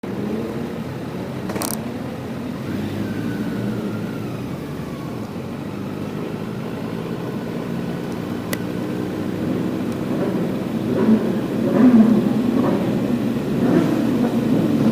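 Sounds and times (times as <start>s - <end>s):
motorcycle engine running: 0.1s - 14.9s.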